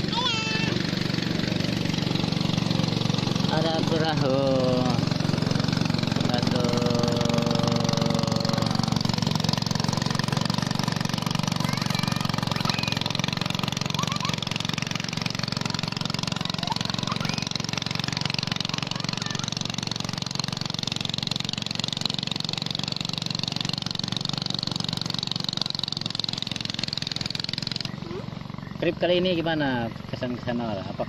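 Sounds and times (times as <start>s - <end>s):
motorboat engine throbbing: 0.0s - 31.0s.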